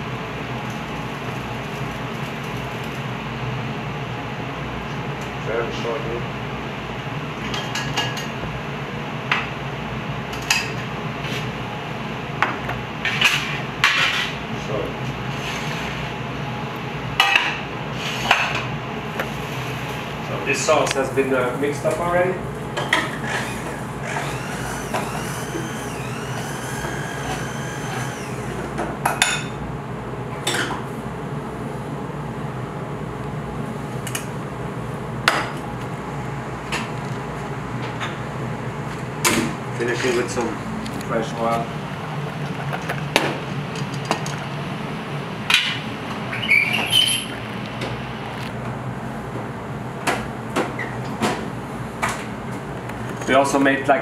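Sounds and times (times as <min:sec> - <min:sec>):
steady background hum: 0:00.0 - 0:54.0
steady background noise: 0:00.0 - 0:54.0.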